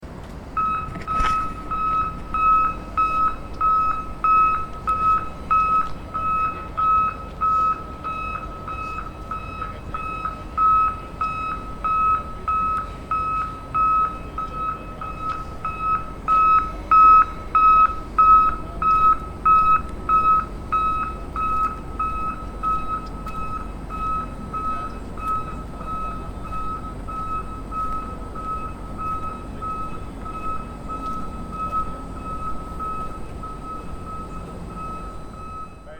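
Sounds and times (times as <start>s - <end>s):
low engine rumble: 0.0s - 35.9s
reversing alarm beeping: 0.4s - 35.9s.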